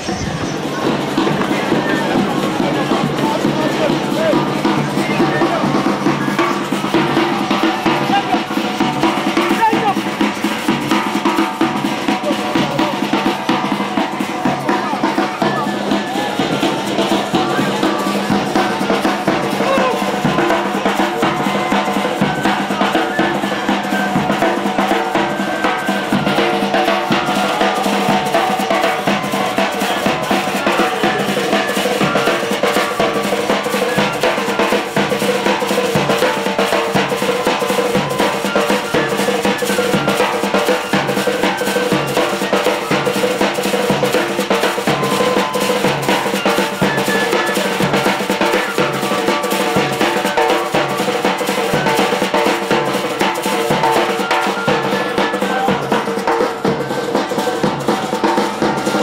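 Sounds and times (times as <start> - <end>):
marching band playing: 0.0 - 59.0
snare and bass drums beat: 0.0 - 59.0.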